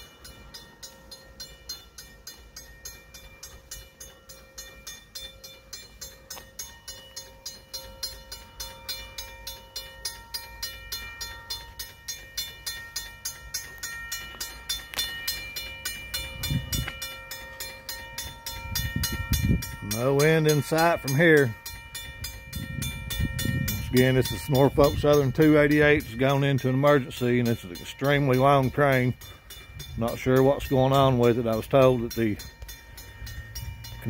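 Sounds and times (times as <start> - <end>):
crossing bell ringing: 0.0 - 34.0
freight train cars rumbling: 0.0 - 34.0.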